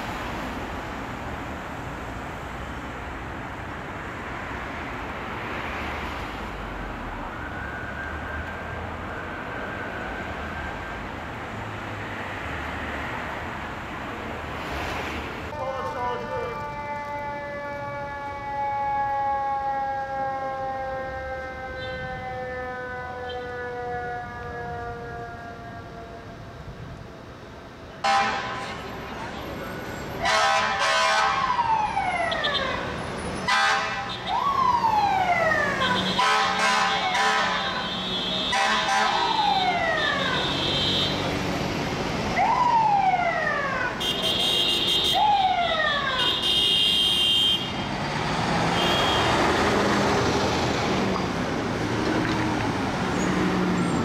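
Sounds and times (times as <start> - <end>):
fire truck siren sweeping: 6.2 - 13.0, 15.5 - 27.3, 29.4 - 54.0.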